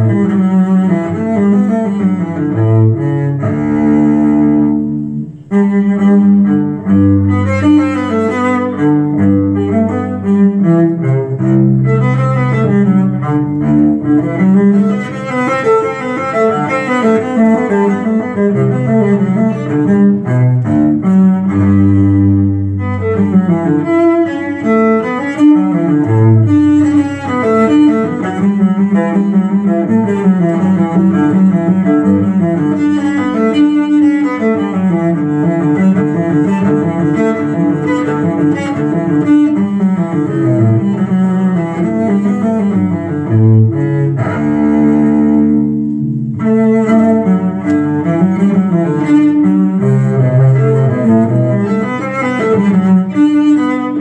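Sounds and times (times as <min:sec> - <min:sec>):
cello and bassoon classical music: 0:00.0 - 0:54.0.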